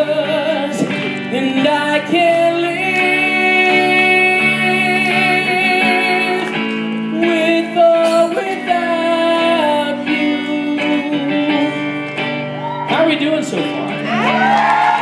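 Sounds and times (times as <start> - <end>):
person singing: 0.0 - 13.1
guitar accompaniment: 0.0 - 15.0.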